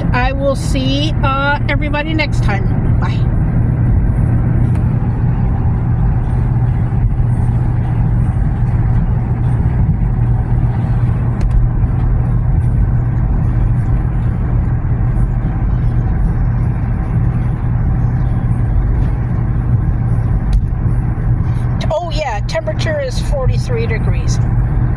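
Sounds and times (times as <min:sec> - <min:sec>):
engine drone inside car: 0:00.0 - 0:24.9
tyre road noise: 0:00.0 - 0:24.9.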